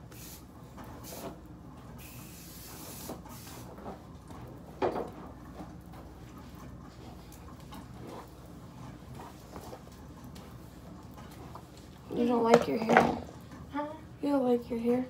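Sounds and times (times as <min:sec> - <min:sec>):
ceiling fan humming: 0:00.0 - 0:15.0.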